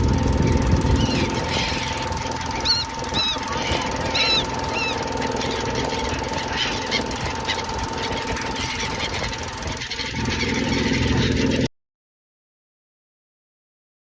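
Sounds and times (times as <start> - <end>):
engine throbbing: 0.0 - 11.7
gulls calling: 0.0 - 11.7.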